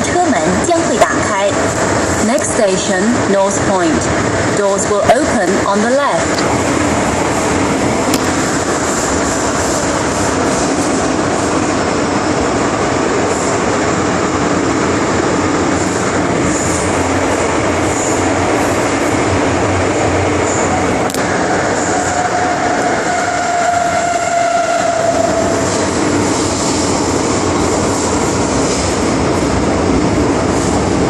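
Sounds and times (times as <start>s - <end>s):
train wheel-on-rail rumble: 0.0s - 31.0s.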